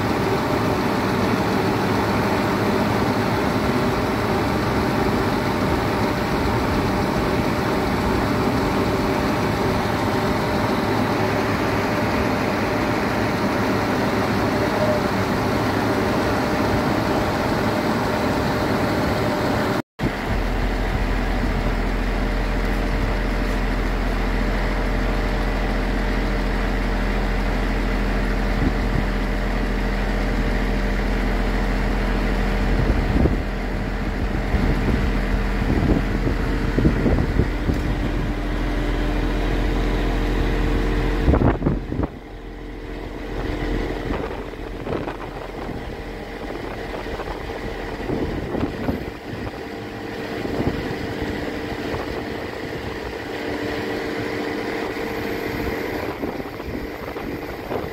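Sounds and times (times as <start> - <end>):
crane hydraulics humming: 0.0 - 57.9
truck diesel engine running: 0.0 - 57.9.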